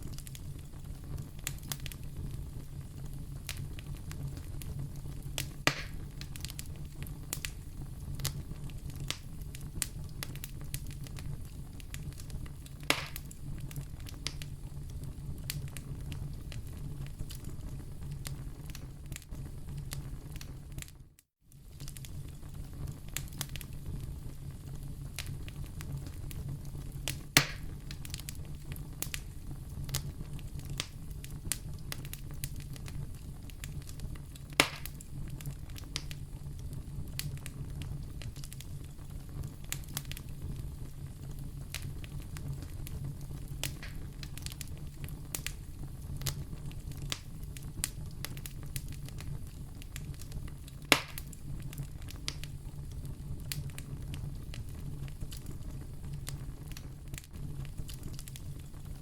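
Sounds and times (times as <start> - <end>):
loud sharp pops of fire: 0.0 - 21.0, 21.6 - 59.0
fire rumbling: 0.0 - 59.0
wood fire crackling: 0.0 - 59.0.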